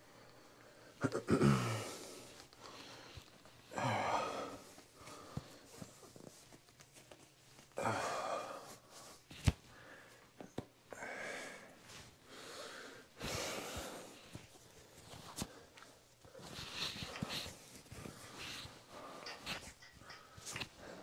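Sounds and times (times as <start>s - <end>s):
person breathing heavily: 0.0s - 6.0s, 7.8s - 21.0s.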